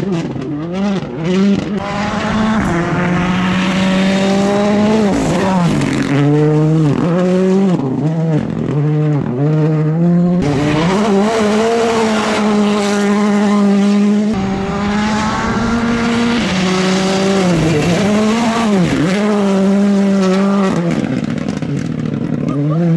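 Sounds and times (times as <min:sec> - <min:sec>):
rally car engines revving: 0:00.0 - 0:22.9
cars passing: 0:00.2 - 0:22.3.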